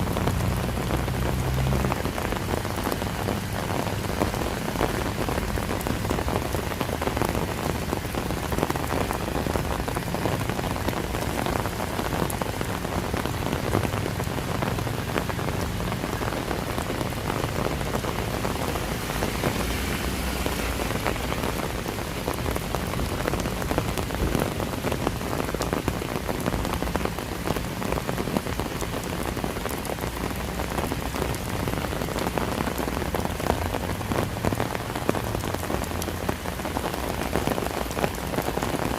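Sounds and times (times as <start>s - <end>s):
raindrops ticking: 0.0s - 38.9s
steady rain: 0.0s - 38.9s.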